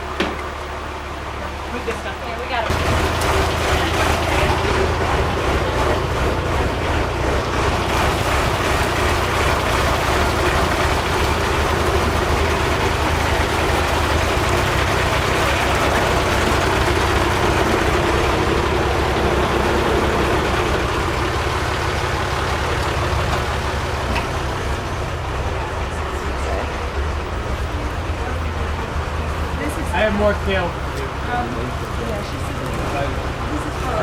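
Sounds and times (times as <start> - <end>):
machine humming steadily: 0.0 - 34.0.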